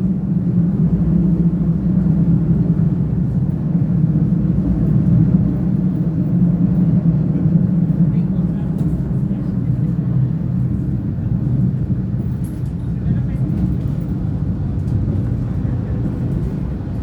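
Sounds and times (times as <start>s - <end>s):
diesel railcar engine drone: 0.0s - 17.0s.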